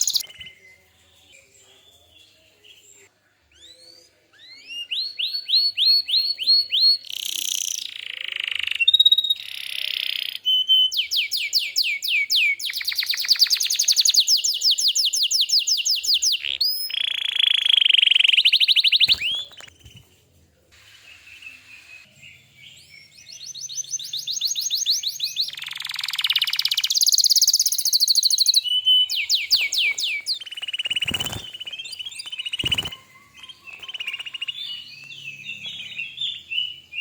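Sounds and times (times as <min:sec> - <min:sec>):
canary singing with trills: 0:00.0 - 0:20.0, 0:21.2 - 0:37.0.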